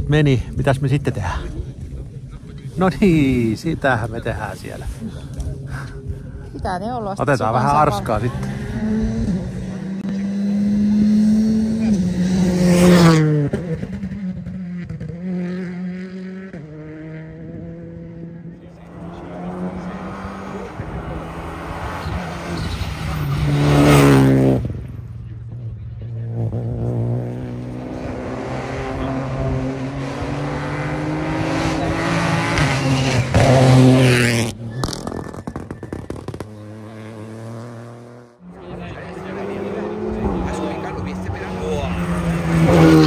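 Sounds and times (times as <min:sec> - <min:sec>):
rally car passing at speed: 0:07.5 - 0:43.0.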